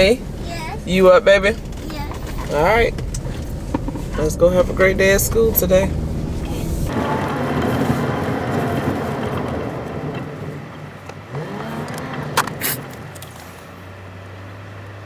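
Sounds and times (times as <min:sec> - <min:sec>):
car and traffic noise: 0:00.0 - 0:15.0.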